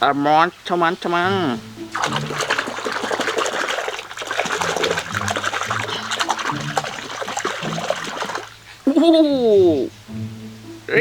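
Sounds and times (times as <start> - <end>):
water splashing: 0.0 - 9.2
background music: 0.6 - 11.0.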